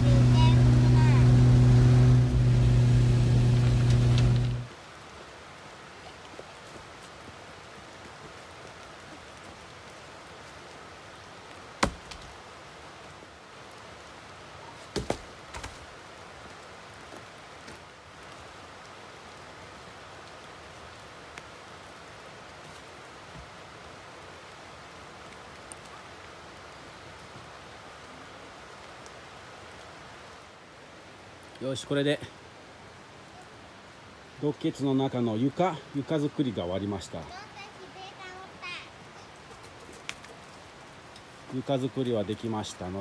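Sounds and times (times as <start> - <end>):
steady rain-like hiss: 0.0 - 43.0.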